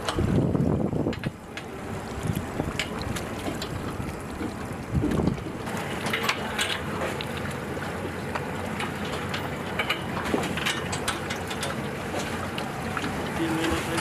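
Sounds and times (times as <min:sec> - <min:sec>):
outboard boat engine: 0:00.0 - 0:14.0
water noise: 0:00.0 - 0:14.0.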